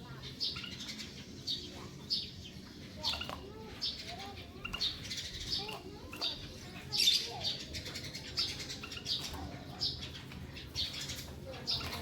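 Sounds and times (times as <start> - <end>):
cage birds chirping: 0.0 - 12.0.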